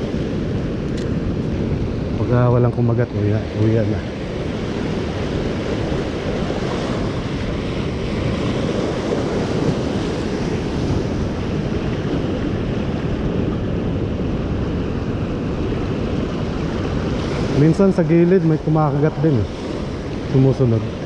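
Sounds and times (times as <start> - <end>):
waves washing over sand: 0.0 - 21.0
wind buffeting microphone: 0.0 - 21.0.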